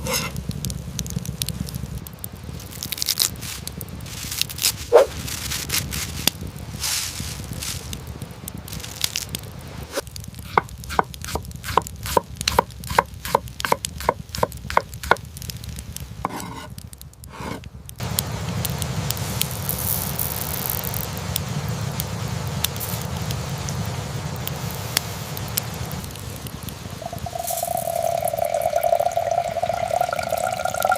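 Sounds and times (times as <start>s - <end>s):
hiss with crackles: 0.0s - 30.9s.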